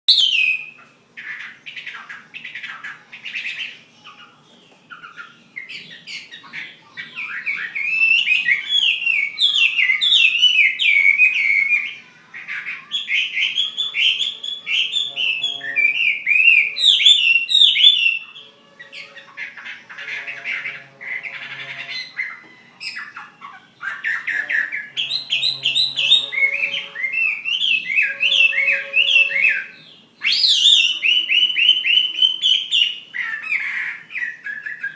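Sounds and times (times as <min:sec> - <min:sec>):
bird singing whistled notes: 0:00.1 - 0:00.8, 0:01.9 - 0:12.1, 0:12.8 - 0:34.9.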